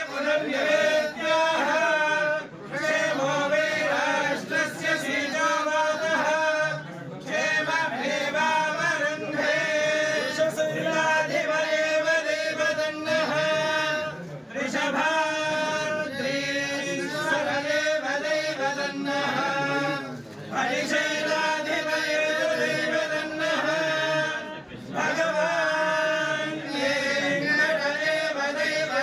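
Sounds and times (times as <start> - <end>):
priests chanting: 0.0 - 29.0.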